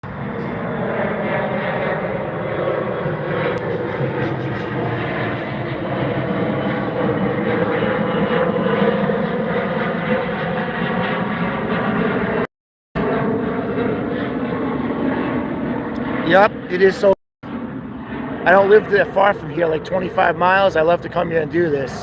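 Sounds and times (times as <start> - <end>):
jet airliner taking off: 0.0 - 22.0.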